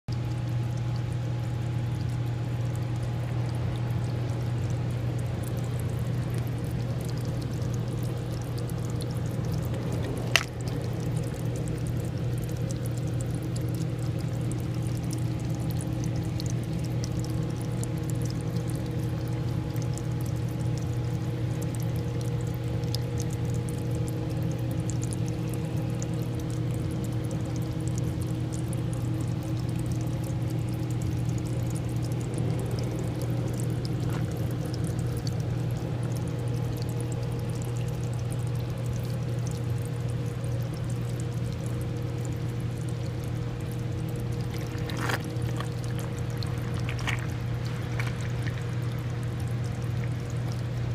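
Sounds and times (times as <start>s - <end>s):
low constant hum: 0.0s - 50.9s
liquid boiling vigorously: 0.1s - 50.9s.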